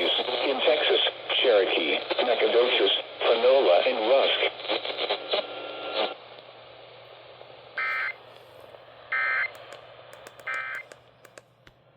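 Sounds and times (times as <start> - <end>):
radio hiss: 0.0 - 10.8
faint static crackles: 0.0 - 11.8.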